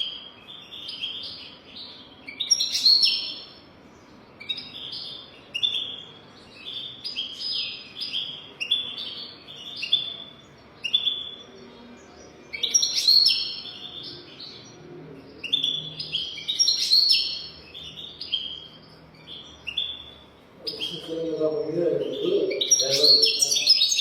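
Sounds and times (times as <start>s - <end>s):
goldfinch twittering: 0.0s - 3.6s, 4.4s - 11.6s, 15.4s - 24.0s.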